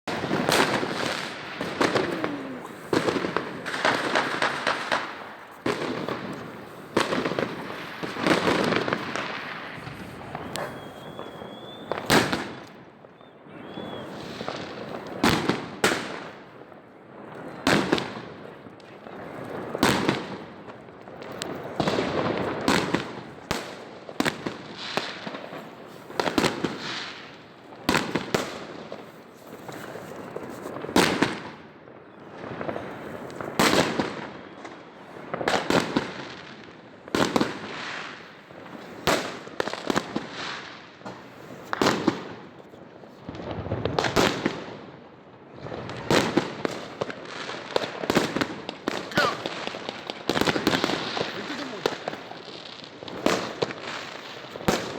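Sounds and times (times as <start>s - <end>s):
fireworks bangs with crackling echo: 0.1s - 54.9s.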